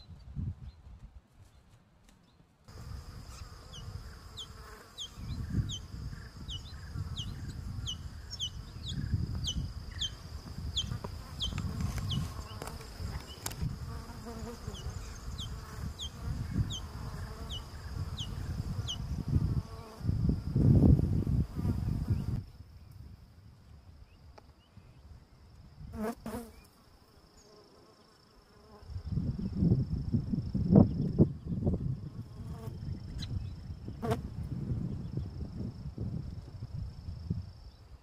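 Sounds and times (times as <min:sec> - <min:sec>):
wind rumble on microphone: 0:00.0 - 0:01.4, 0:05.1 - 0:26.0, 0:28.8 - 0:38.0.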